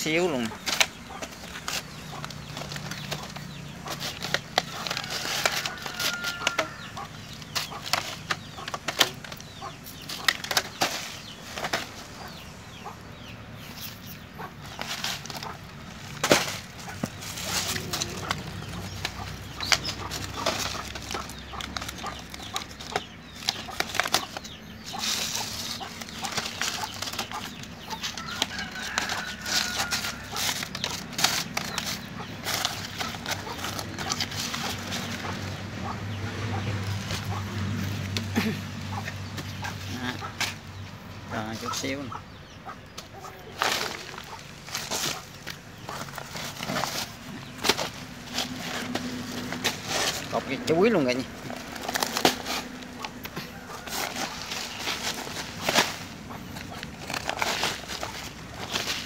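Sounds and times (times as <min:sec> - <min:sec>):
chickens clucking: 0:00.0 - 0:59.0
rustles: 0:00.0 - 0:59.0.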